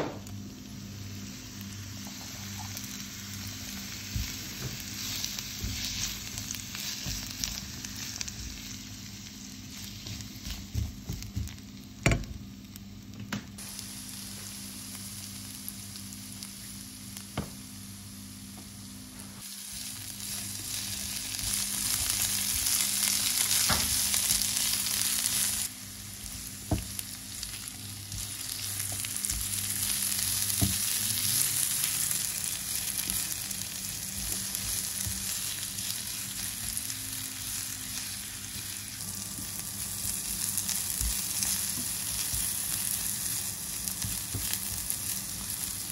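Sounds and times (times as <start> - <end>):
vegetables sizzling in oil: 0.0 - 13.0, 13.6 - 45.9.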